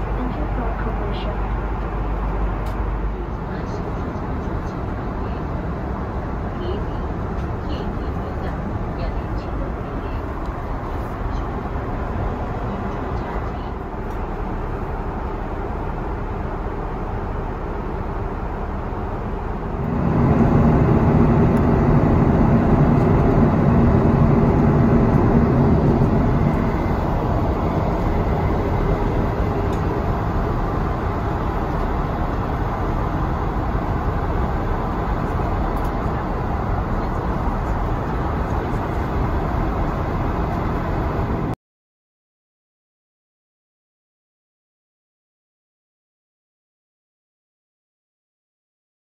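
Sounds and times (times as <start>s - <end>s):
jet engines and rushing air: 0.0s - 41.6s.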